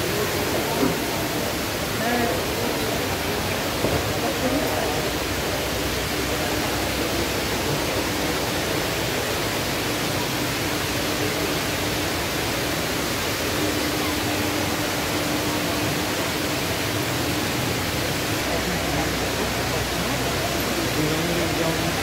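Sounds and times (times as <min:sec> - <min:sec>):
indoor waterfall rushing: 0:00.0 - 0:22.0.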